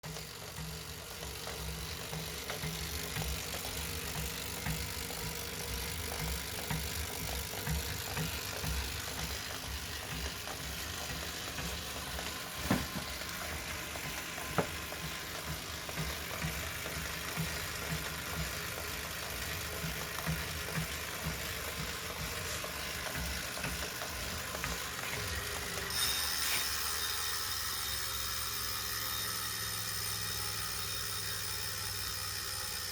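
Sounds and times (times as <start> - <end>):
bike trainer whirring: 0.0 - 32.9.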